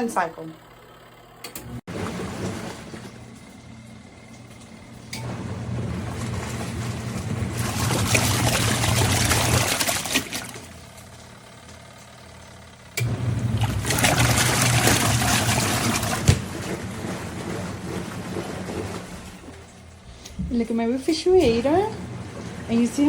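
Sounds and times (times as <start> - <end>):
washing machine motor hum: 0.0 - 23.0
water sloshing and splashing: 1.9 - 11.3, 13.0 - 23.0.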